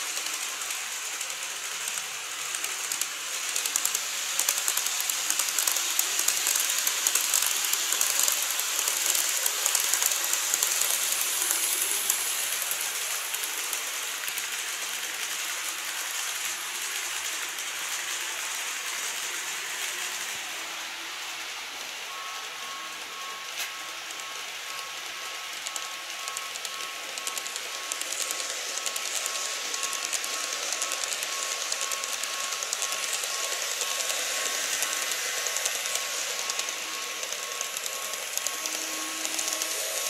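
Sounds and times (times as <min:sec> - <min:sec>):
model train wheels clicking on rails: 0:00.0 - 0:40.0
train running hiss: 0:00.0 - 0:40.0.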